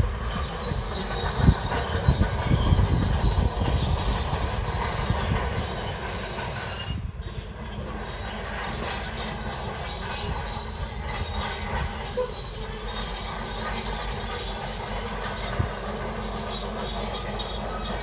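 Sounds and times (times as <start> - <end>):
bulldozer heavy running noise: 0.0 - 18.0
bulldozer tracks clanking and squealing: 0.0 - 18.0.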